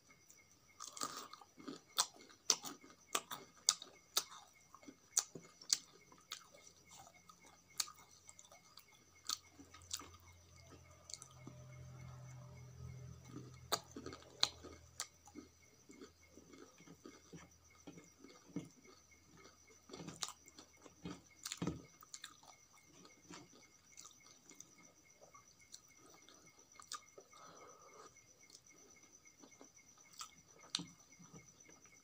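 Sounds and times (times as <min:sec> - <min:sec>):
person chewing: 0:00.8 - 0:11.3, 0:13.3 - 0:24.7, 0:25.7 - 0:28.6, 0:29.4 - 0:30.9.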